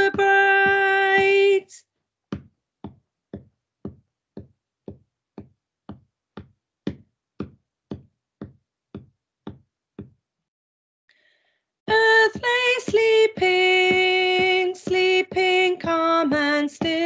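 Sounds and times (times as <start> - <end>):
sharp tapped beat: 0.0 - 1.6, 2.3 - 10.2, 11.9 - 17.0.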